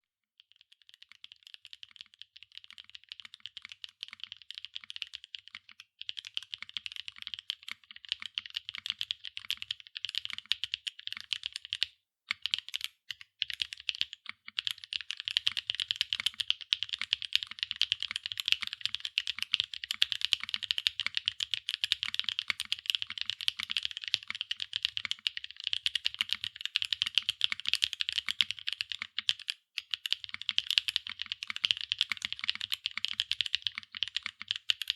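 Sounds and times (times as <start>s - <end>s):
fast typing on mechanical keyboard: 0.7s - 34.9s.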